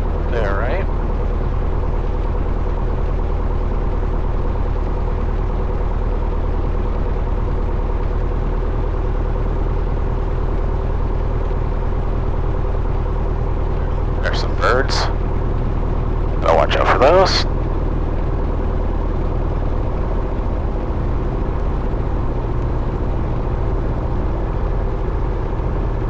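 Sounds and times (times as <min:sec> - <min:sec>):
propeller plane engine running: 0:00.0 - 0:26.0.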